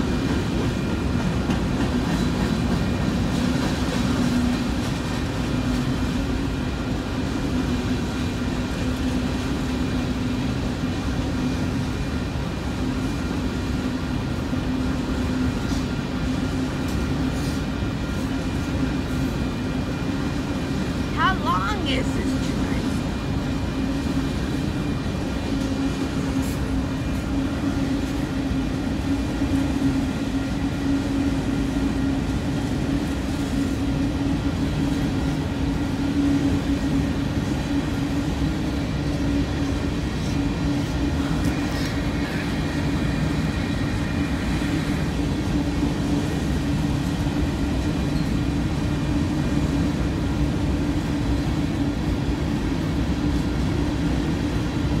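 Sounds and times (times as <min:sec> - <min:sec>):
freight train rolling on rails: 0:00.0 - 0:55.0.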